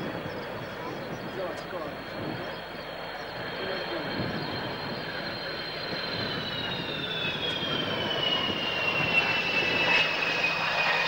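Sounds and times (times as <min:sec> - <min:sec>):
jet engine whine: 0:00.0 - 0:11.0.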